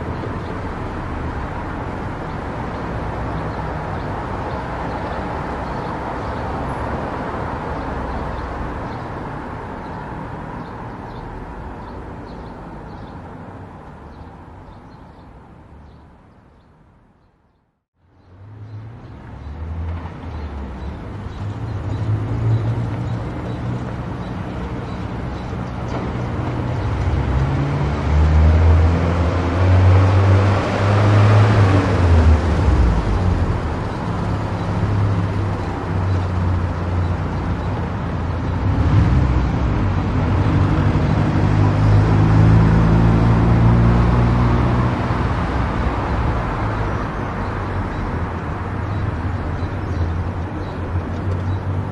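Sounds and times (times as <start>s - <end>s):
tyre and road noise: 0.0s - 51.9s.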